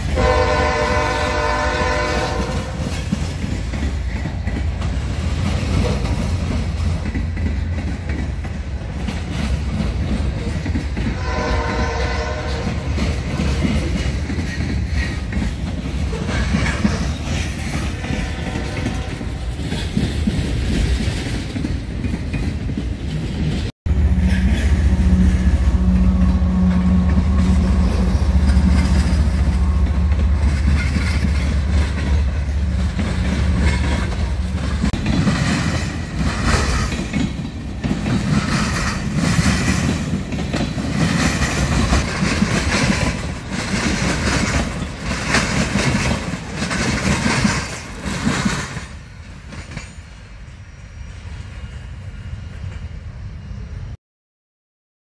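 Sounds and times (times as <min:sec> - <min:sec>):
wheels clacking over rails: 0:00.0 - 0:50.2
diesel locomotive engine drone: 0:00.0 - 0:54.0.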